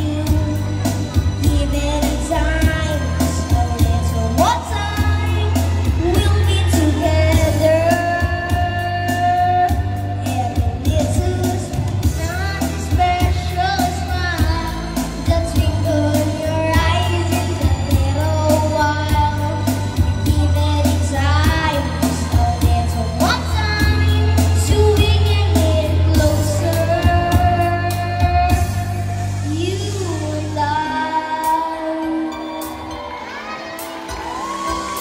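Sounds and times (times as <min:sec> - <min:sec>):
boy singing into a microphone: 0:00.0 - 0:33.0
backing music with steady beat: 0:00.0 - 0:35.0.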